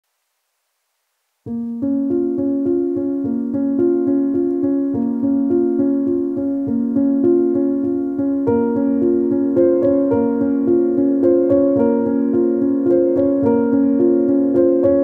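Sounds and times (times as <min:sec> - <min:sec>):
keyboard melody: 0:01.5 - 0:15.0.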